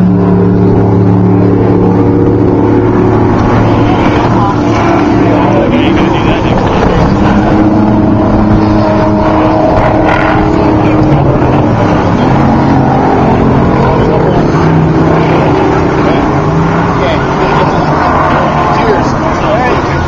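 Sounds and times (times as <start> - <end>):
race truck engines running hard: 0.0 - 20.0.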